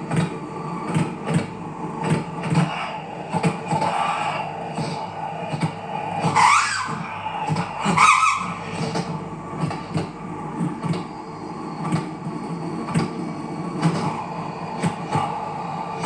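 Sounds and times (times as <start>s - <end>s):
imitated train rolling: 0.0s - 16.0s.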